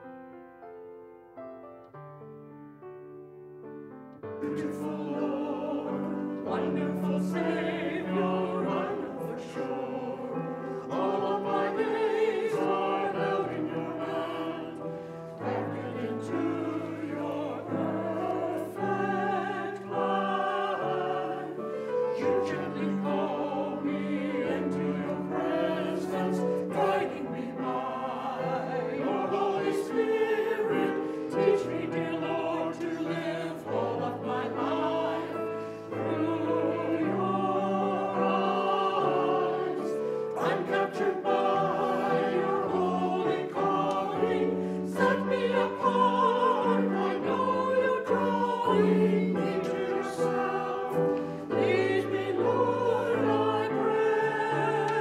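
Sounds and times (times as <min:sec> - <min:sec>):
group singing worship song: 0:04.4 - 0:55.0.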